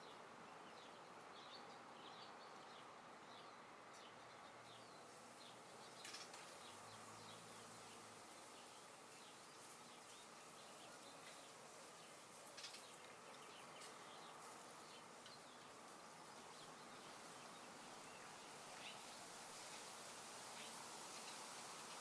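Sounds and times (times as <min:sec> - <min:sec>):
soft steady hiss: 0:00.0 - 0:22.0.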